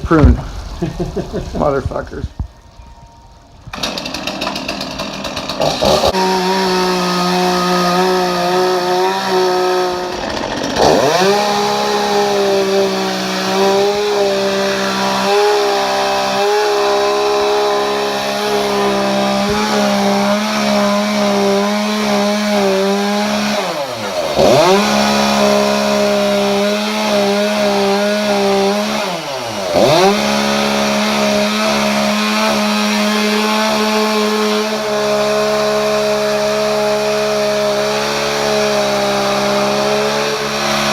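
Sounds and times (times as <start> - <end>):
chainsaw carving wood: 3.7 - 40.9.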